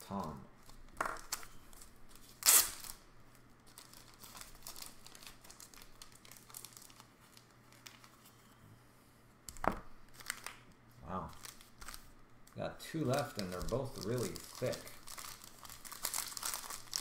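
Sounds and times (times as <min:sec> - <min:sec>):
plastic card sleeves crinkling: 0:00.2 - 0:08.4, 0:10.1 - 0:17.0.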